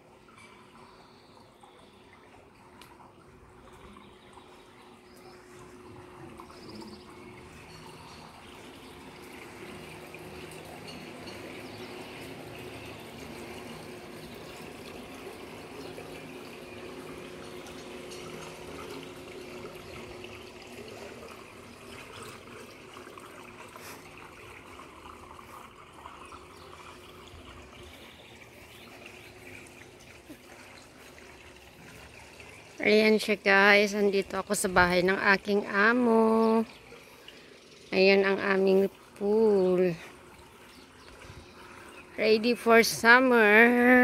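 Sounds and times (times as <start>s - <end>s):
faint steady hum: 0.0s - 44.0s
water trickling into gutter: 0.0s - 44.0s.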